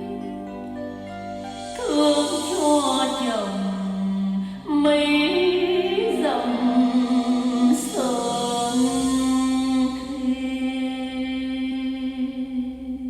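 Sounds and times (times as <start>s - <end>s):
low musical accompaniment: 0.0s - 13.0s
woman singing slow song: 0.0s - 13.0s.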